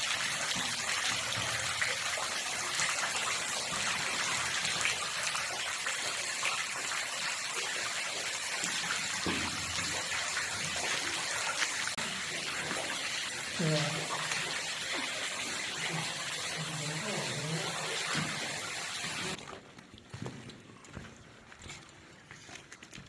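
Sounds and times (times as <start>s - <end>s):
running water rushing and trickling: 0.0s - 19.6s.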